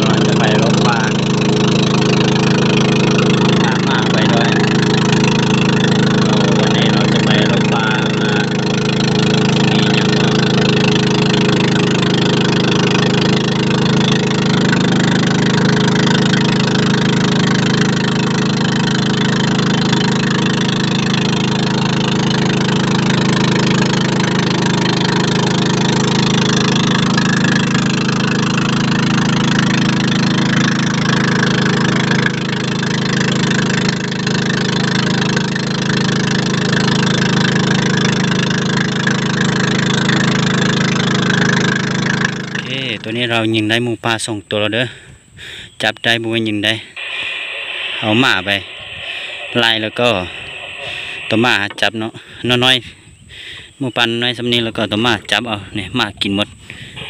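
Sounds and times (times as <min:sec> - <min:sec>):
boat engine droning: 0:00.0 - 0:43.8, 0:46.5 - 0:55.4.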